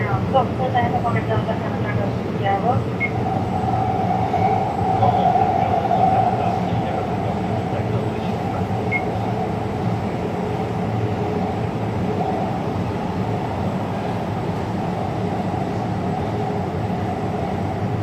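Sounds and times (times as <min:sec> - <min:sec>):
train wheels rumbling on rail: 0:00.0 - 0:18.0
train whine: 0:00.0 - 0:18.0.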